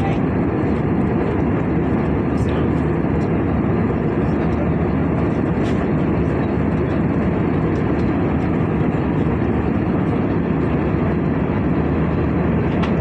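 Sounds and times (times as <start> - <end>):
airplane cabin noise in flight: 0.0 - 13.0.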